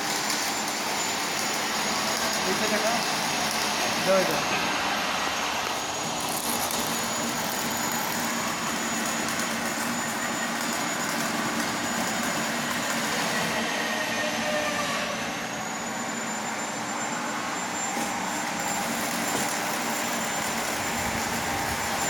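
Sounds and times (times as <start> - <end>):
welding arc hissing crackle: 0.0 - 14.6, 17.9 - 22.0.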